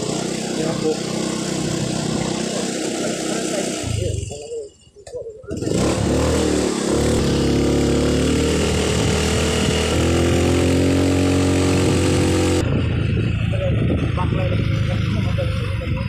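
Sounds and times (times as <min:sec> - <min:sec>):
small motorcycle engine: 0:00.0 - 0:16.0.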